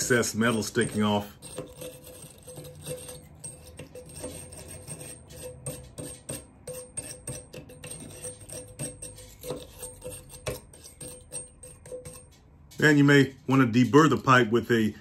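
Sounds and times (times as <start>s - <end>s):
wire brush scraping: 0.0s - 13.0s.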